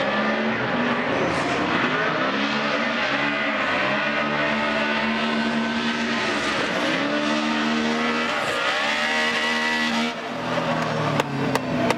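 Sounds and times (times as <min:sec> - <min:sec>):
car engines at high revs: 0:00.0 - 0:11.9.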